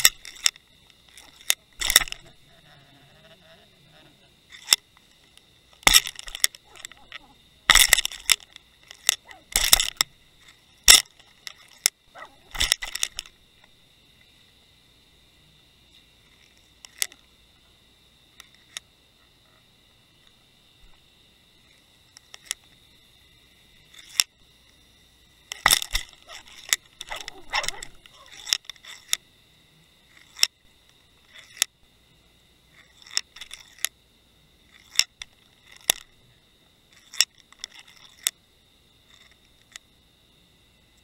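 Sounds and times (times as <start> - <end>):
faint high electronic whine: 0.0 - 41.0.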